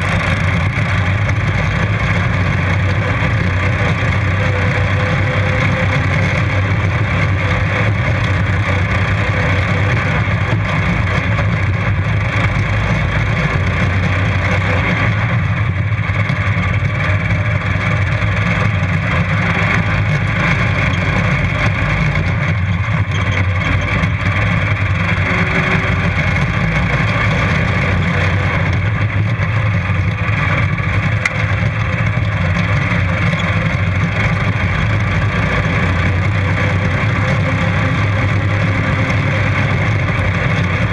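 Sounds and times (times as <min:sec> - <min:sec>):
lawn mower engine at full throttle: 0:00.0 - 0:40.9.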